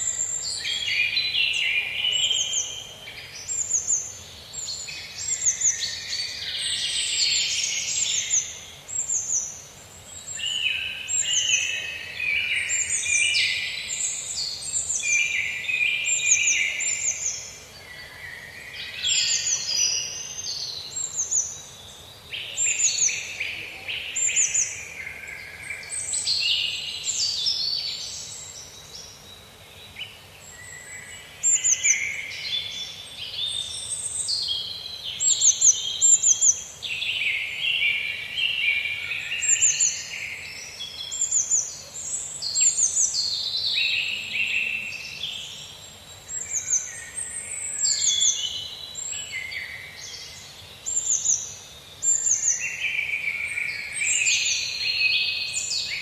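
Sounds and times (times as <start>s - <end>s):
faint background hiss: 0.0s - 56.0s
songbirds singing and chirping: 0.0s - 56.0s.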